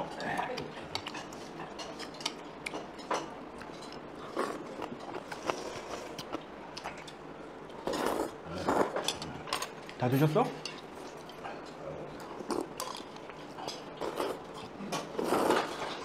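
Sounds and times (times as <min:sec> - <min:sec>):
person chewing noodles: 0:00.1 - 0:10.0, 0:10.7 - 0:15.8.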